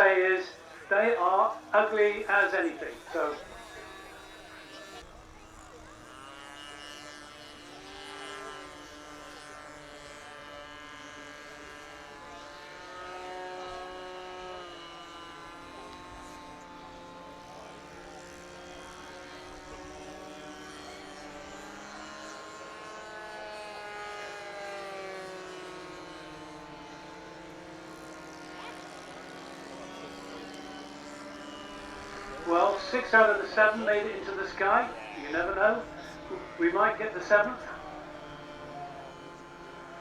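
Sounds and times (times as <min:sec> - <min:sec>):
model aircraft engines buzzing: 0:00.0 - 0:40.0.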